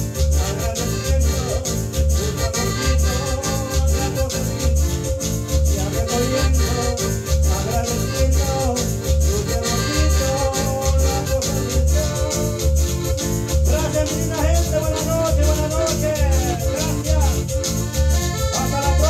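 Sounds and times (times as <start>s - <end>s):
accordion playing latin tune: 0.0s - 19.0s
bass beat: 0.0s - 19.0s
percussion: 0.0s - 19.0s.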